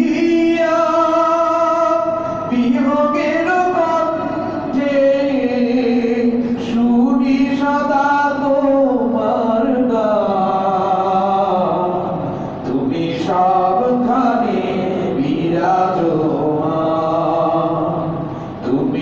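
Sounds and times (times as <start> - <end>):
man chanting slow melody: 0.0 - 19.0.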